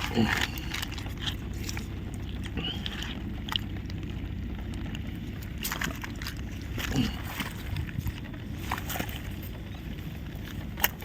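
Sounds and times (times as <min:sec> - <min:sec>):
wind rumble on microphone: 0:01.2 - 0:11.0.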